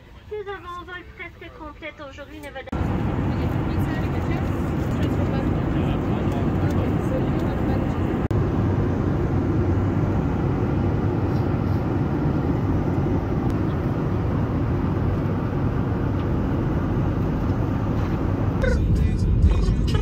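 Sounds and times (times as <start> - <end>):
airliner cabin jet roar: 2.7 - 20.0.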